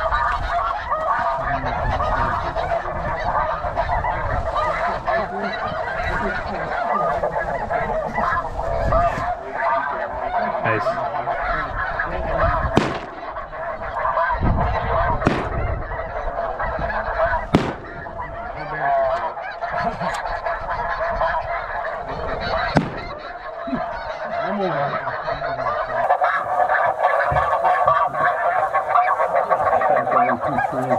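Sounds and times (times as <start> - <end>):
geese honking: 0.0 - 30.9.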